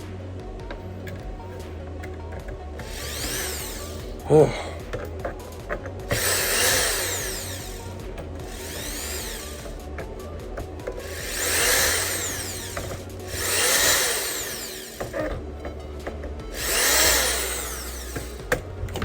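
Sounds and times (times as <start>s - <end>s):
electric screwdriver whirring: 0.6s - 19.0s.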